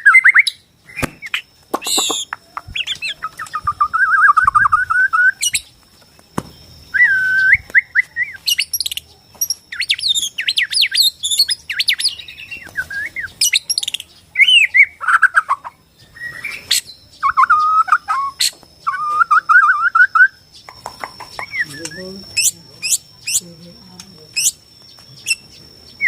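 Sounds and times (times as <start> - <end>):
bird singing whistles and trills: 0.0 - 5.8, 6.5 - 26.0.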